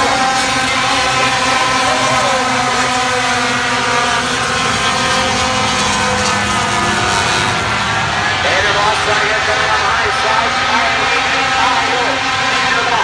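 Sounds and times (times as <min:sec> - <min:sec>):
race truck engines: 0:00.0 - 0:13.0.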